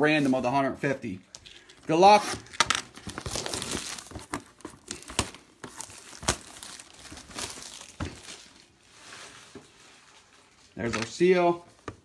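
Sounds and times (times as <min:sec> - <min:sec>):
card packaging crinkling and tearing: 0:01.3 - 0:11.4.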